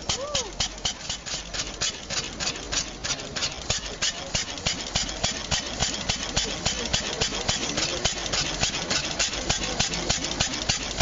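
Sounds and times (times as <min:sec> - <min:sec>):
steam engine knocking: 0:00.0 - 0:11.0.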